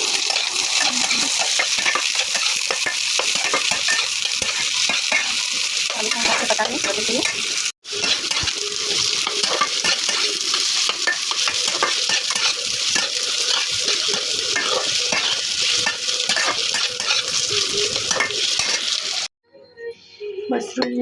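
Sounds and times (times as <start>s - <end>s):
spatula scraping a pan: 0.0s - 19.0s
potatoes sizzling in oil: 0.0s - 19.3s.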